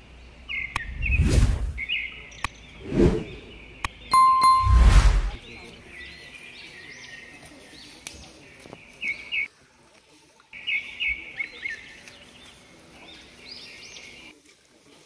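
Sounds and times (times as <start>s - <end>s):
forest birds chirping: 0.0s - 4.6s, 5.4s - 15.0s.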